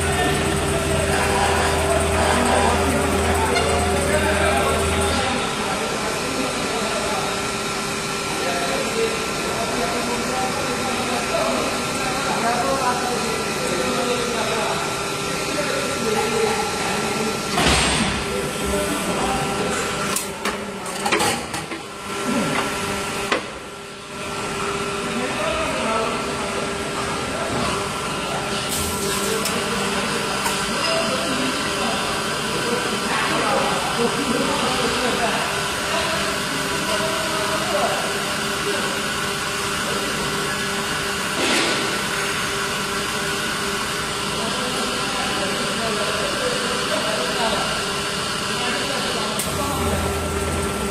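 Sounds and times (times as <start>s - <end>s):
machine hum: 0.0s - 20.3s, 21.8s - 50.9s.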